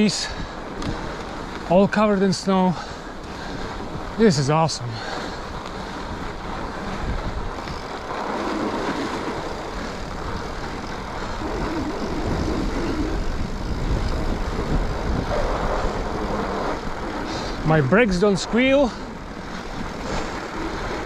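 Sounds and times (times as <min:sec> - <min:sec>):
bike tyres rolling on snow: 0:00.0 - 0:21.0
wind rumble on microphone: 0:00.0 - 0:21.0.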